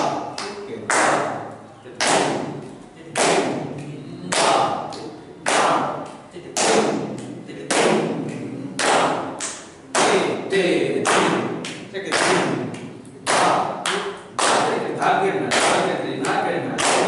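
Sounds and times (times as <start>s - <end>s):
people clapping in unison: 0.0s - 1.4s, 2.0s - 17.0s
voices reciting syllables: 0.0s - 17.0s.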